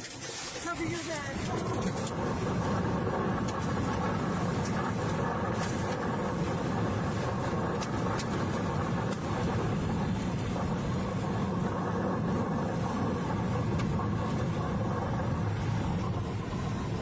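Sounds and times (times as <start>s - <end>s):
wind rushing against car: 0.6s - 17.0s.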